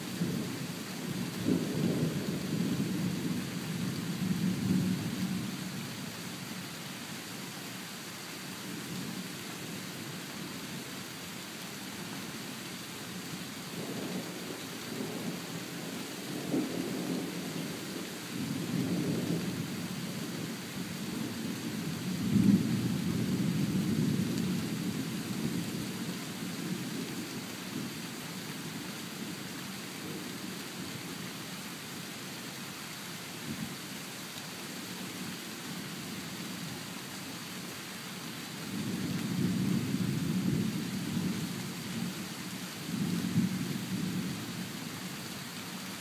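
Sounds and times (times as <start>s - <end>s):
rain hissing: 0.0s - 46.0s.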